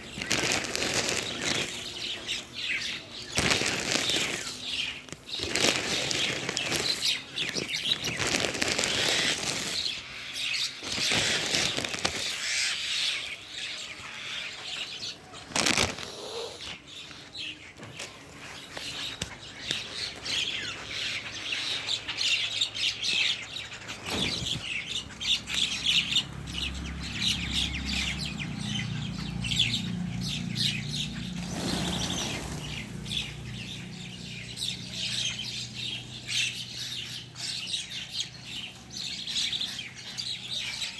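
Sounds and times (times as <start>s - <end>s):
bird chirping and twittering: 0.0s - 40.9s.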